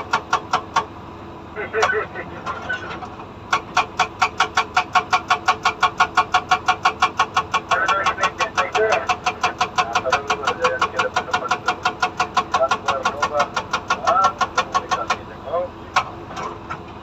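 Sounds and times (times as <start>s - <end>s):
hydraulic rock breaker hammering: 0.0s - 1.0s, 3.5s - 17.0s.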